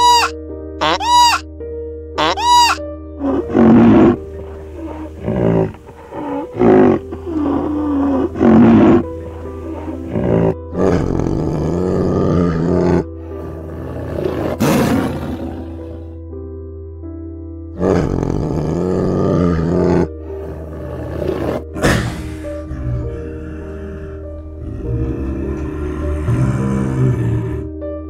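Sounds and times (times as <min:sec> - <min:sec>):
background music: 0:00.0 - 0:28.0
large animal roaring: 0:03.2 - 0:16.2, 0:17.8 - 0:27.8.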